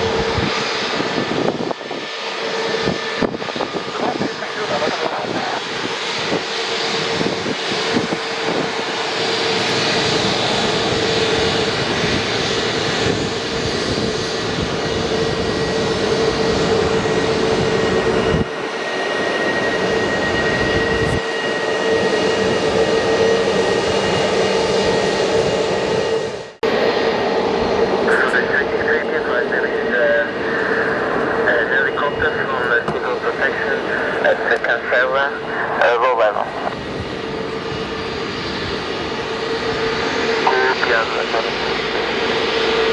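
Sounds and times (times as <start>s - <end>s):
jet engines roaring: 0.0s - 42.9s.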